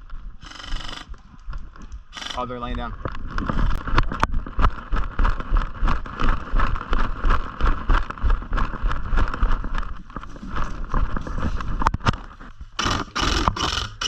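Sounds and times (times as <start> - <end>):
thudding footsteps: 0.0 - 12.9
gear jostling against microphone: 0.4 - 14.0.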